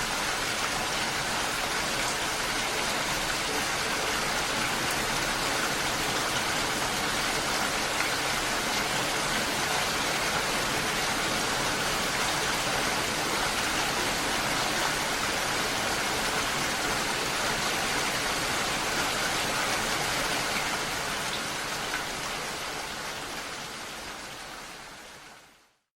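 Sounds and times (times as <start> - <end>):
steady rain: 0.0 - 25.9.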